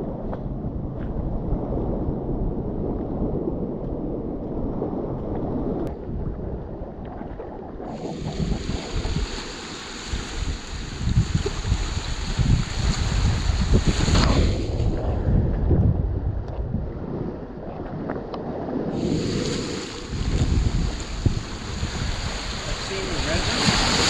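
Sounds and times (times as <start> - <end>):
wind and surf hiss: 0.0 - 24.0.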